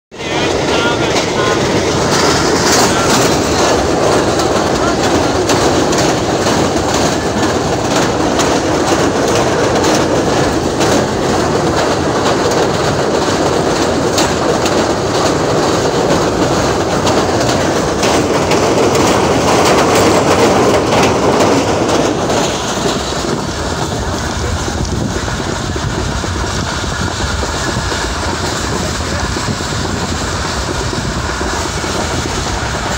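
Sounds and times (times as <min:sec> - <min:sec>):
train wheels rumbling on bridge: 0:00.1 - 0:32.9.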